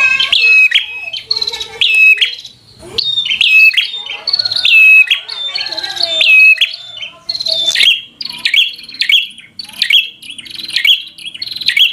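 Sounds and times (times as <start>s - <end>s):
bird sharp high chirping: 0.0s - 11.9s.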